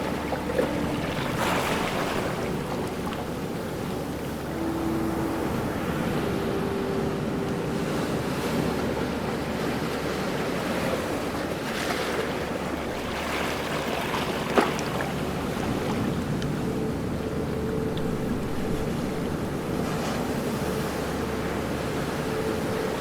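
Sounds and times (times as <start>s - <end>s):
ocean waves washing: 0.0s - 23.0s.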